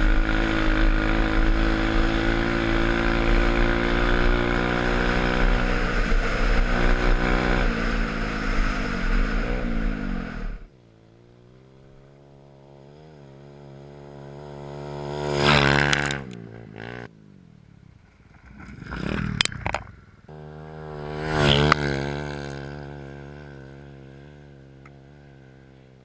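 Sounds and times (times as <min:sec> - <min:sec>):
dirt bike engine passing: 0:00.0 - 0:26.0.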